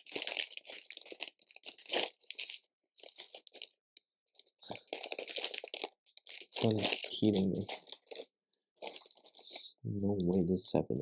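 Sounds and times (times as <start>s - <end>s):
hands rummaging through plastic bricks: 0.0s - 9.6s.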